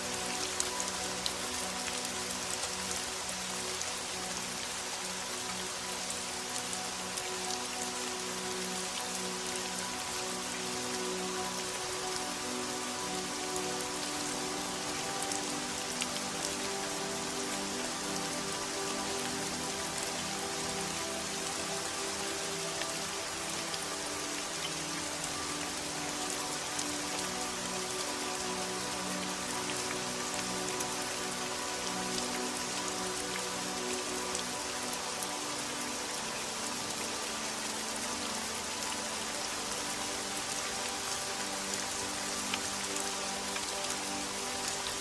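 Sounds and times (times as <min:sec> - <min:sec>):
soft low music notes: 0:00.0 - 0:45.0
steady rain falling: 0:00.0 - 0:45.0.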